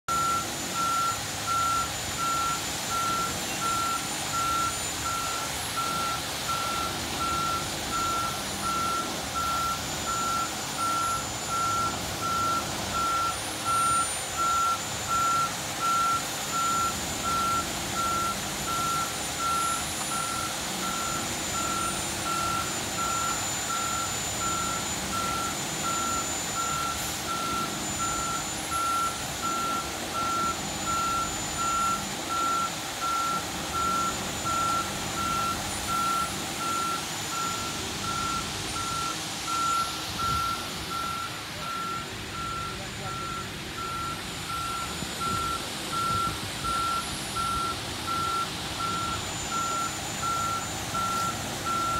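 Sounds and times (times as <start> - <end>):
reversing alarm beeping: 0.0 - 51.9
truck running noise: 0.0 - 51.9.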